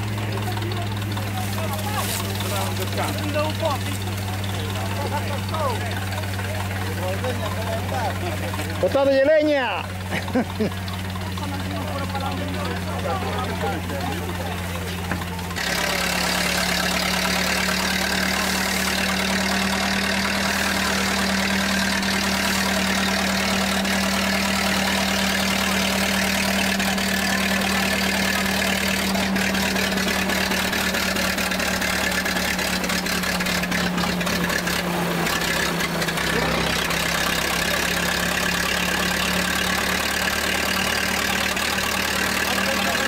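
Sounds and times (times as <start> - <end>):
engine hum: 0.0 - 43.0
threshing machine whirring: 0.0 - 43.0.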